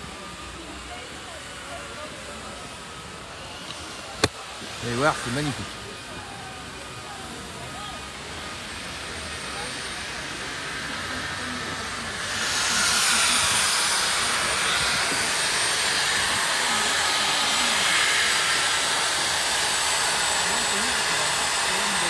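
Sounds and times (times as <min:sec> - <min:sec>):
power tool hissing against ice: 0:00.0 - 0:22.0.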